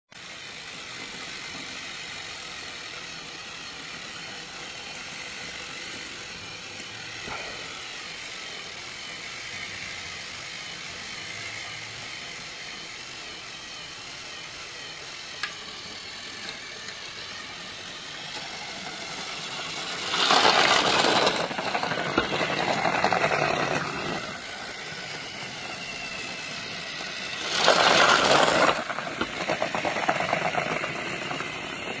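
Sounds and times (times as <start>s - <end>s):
motor running with rattle: 0.1s - 32.0s.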